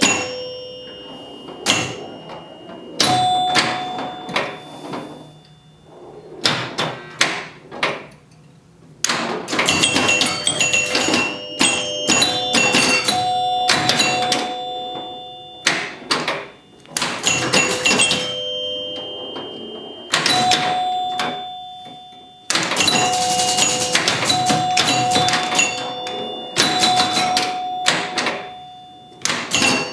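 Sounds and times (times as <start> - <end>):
pinball clicks and knocks: 0.0 - 5.6, 6.4 - 29.9
pinball score chimes ringing: 0.0 - 8.1, 9.1 - 29.9.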